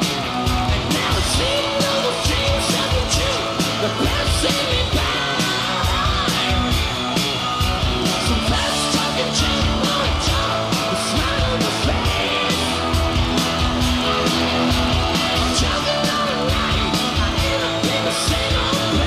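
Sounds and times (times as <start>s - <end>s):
electric guitar: 0.0s - 19.0s
steady drum beat: 0.0s - 19.0s.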